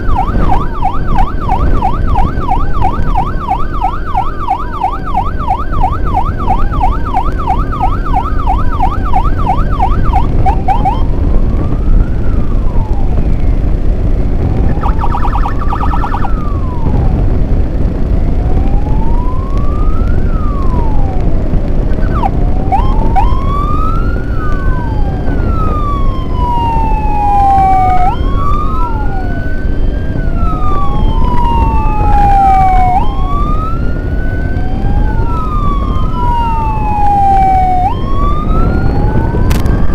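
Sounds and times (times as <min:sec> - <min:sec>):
emergency sirens yelping and wailing: 0:00.0 - 0:39.9
engine rumble: 0:00.0 - 0:39.9
wind noise: 0:00.0 - 0:39.9.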